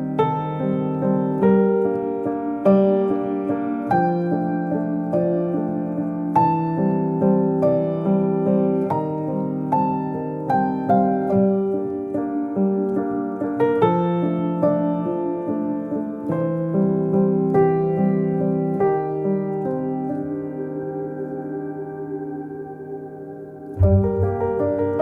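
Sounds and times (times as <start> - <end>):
slow piano piece: 0.0 - 25.0.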